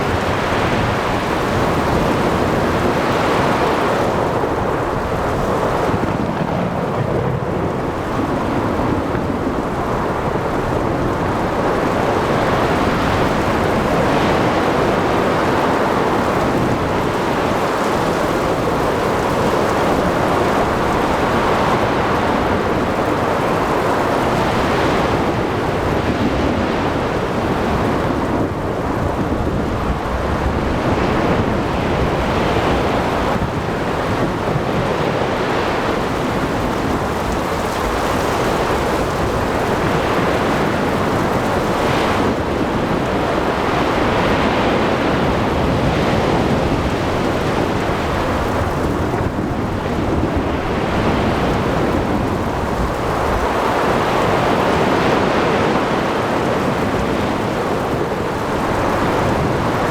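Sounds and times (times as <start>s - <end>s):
rain: 0.0s - 59.9s
waves washing: 0.0s - 59.9s
wind: 0.0s - 59.9s.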